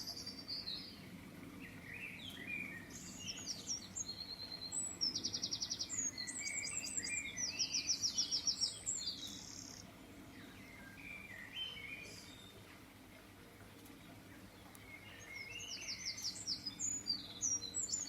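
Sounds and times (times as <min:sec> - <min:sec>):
birds calling and singing: 0:00.0 - 0:18.0.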